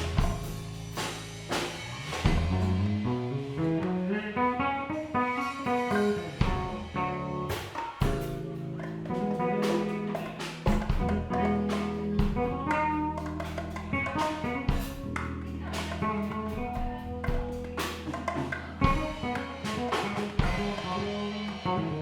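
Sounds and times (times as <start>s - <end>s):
drum hits and cymbals: 0.0s - 3.2s, 5.4s - 21.8s
guitar playing: 0.0s - 22.0s
sustained bass line: 0.0s - 22.0s.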